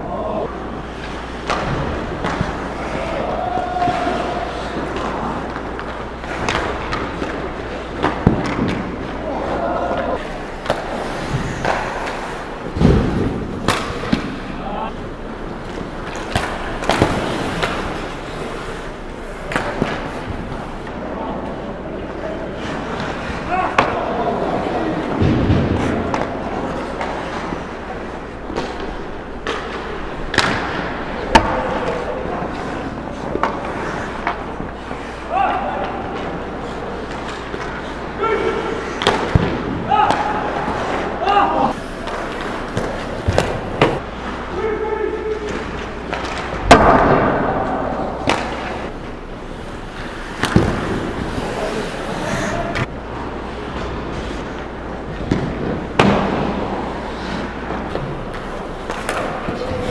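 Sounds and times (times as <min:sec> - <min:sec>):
hockey sticks and puck clacking: 0:00.0 - 0:59.9
ice skates scraping on ice: 0:00.3 - 0:14.0, 0:15.6 - 0:39.4, 0:40.3 - 0:44.6, 0:48.2 - 0:55.2, 0:55.8 - 0:59.9.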